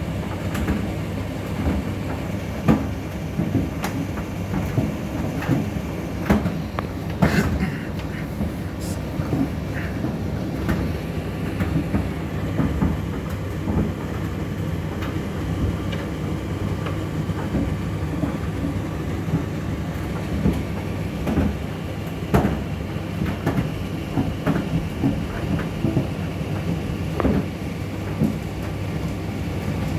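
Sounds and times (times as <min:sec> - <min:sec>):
tumble dryer humming: 0:00.0 - 0:29.5.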